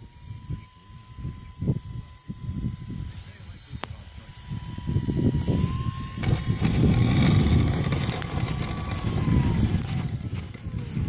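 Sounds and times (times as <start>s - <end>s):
heavy low rumble: 0.0s - 11.0s
model airplane motor whine: 0.0s - 11.0s.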